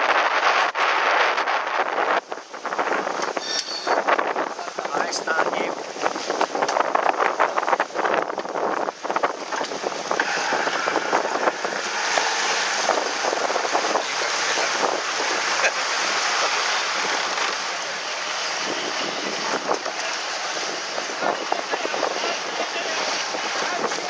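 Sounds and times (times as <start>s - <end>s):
water and waves rushing: 0.0s - 24.0s
wind buffeting microphone: 0.0s - 24.0s.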